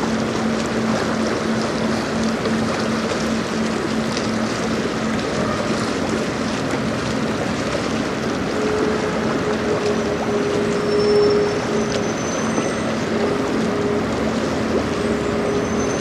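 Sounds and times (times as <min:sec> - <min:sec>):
higher hum: 0:00.0 - 0:16.0
river water rushing: 0:00.0 - 0:16.0
ship low hum: 0:00.0 - 0:16.0
wind: 0:00.0 - 0:16.0.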